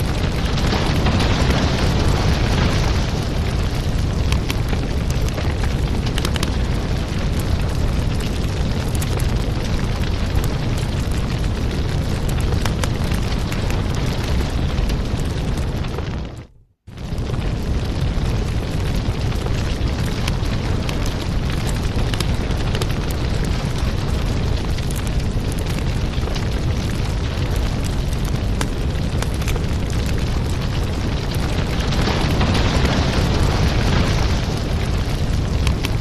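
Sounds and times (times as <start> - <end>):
low rumble: 0.0 - 36.0
wood fire crackling: 0.0 - 36.0.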